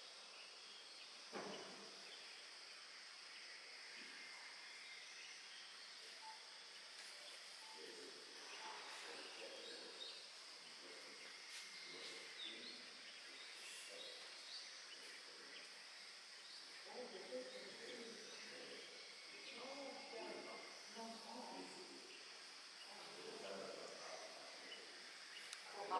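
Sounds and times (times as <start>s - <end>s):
insect chorus: 0.0s - 25.9s
faint distant voices: 3.8s - 25.9s.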